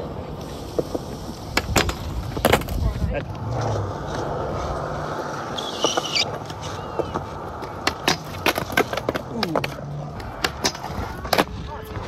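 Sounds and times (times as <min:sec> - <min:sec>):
skateboard clacking on ground: 0:00.0 - 0:12.0
skateboard wheels rolling on concrete: 0:00.0 - 0:12.0.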